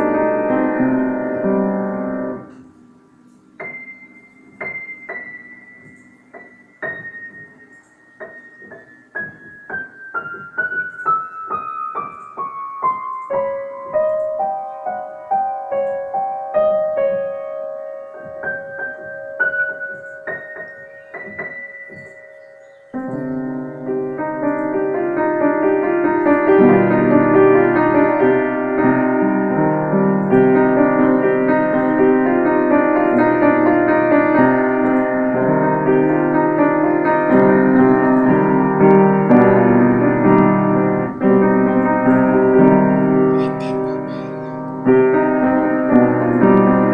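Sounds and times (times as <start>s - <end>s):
piano chords with bass notes: 0.0s - 46.9s
piano single notes: 0.0s - 46.9s.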